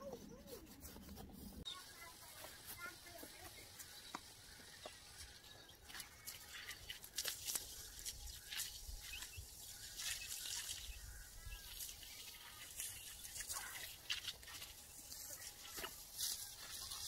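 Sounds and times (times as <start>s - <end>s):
hose water splashing on soil: 1.8s - 17.0s.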